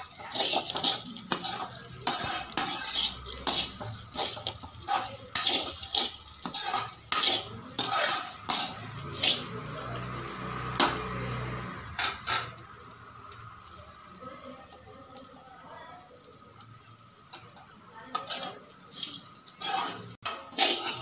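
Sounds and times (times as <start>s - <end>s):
metal spoon scraping a pan: 0.0s - 12.9s, 16.5s - 21.0s
cricket trilling: 0.0s - 21.0s.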